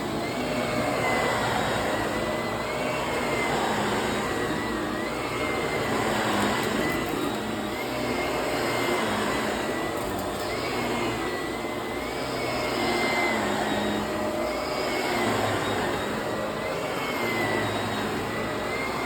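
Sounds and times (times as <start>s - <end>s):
vacuum cleaner on carpet: 0.0s - 19.0s.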